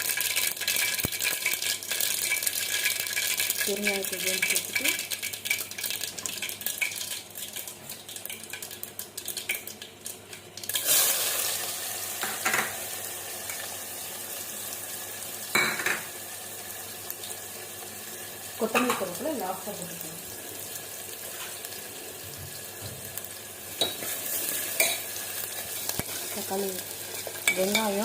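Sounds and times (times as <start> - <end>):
mustard seeds crackling in oil: 0.0 - 15.6, 16.3 - 28.0
vegetables sizzling in oil: 0.0 - 28.0.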